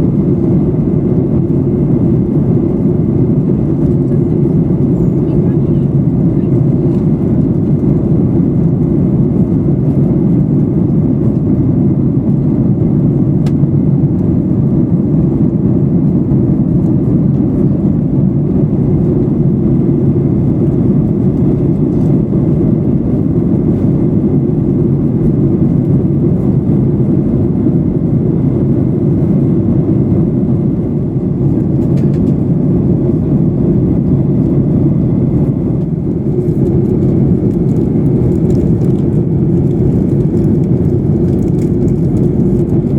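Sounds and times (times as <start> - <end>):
airplane cabin noise: 0.0 - 42.9.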